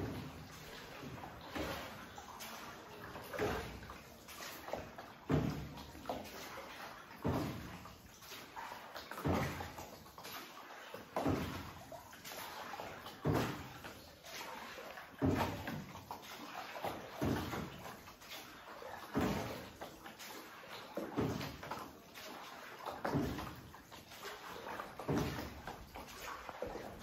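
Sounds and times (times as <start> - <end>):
oars pulling through water: 0.0 - 27.0.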